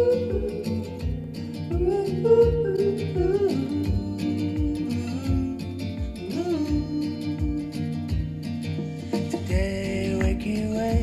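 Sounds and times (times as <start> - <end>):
song with acoustic guitar and bass: 0.0 - 11.0.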